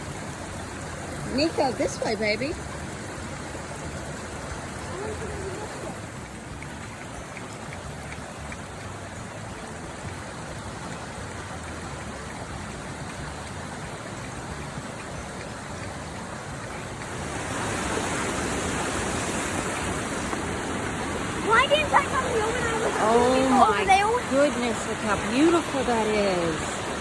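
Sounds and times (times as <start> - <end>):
waterfall roaring: 0.0 - 27.0.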